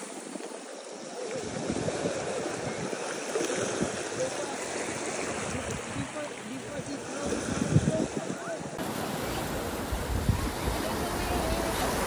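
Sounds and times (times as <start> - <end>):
waves washing over sand: 0.0 - 12.0
faint voices: 1.0 - 12.0.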